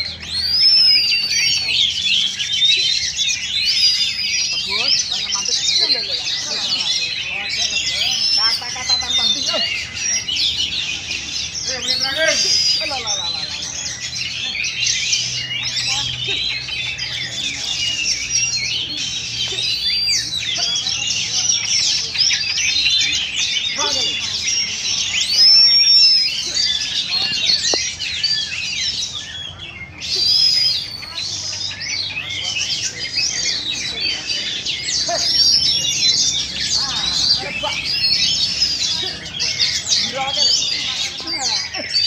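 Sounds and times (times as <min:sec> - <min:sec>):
birds singing: 0:00.0 - 0:42.0.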